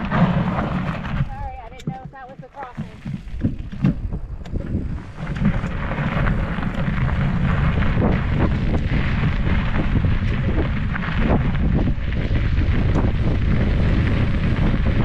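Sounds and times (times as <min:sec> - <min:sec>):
bike rattling: 0:00.0 - 0:15.0
bike tyres crunching over grit: 0:00.0 - 0:15.0
wind rumble on microphone: 0:00.0 - 0:15.0.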